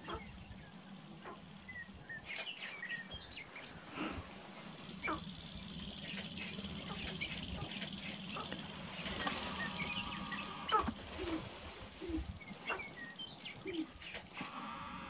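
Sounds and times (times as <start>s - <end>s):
grouse clucks chirps and coos: 0.0s - 2.7s, 4.9s - 15.0s.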